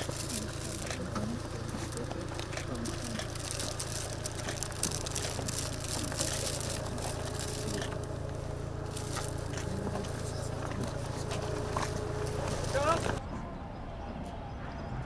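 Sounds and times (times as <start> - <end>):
low rumble: 0.0 - 13.3
faint voices: 0.0 - 15.0.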